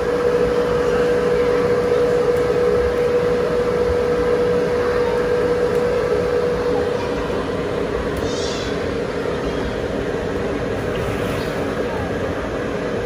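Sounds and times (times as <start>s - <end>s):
steady machine whir: 0.0s - 13.0s.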